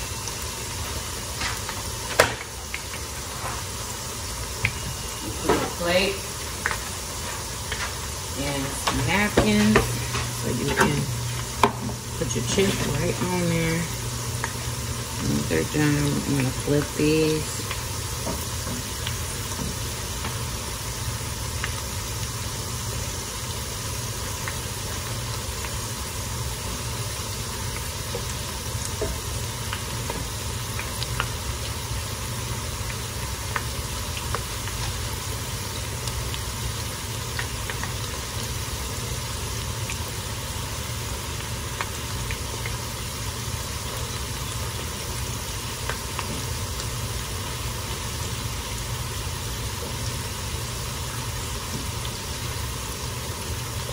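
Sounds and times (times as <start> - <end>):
chips sizzling in hot oil: 0.0 - 53.9
oil popping and crackling: 0.0 - 53.9.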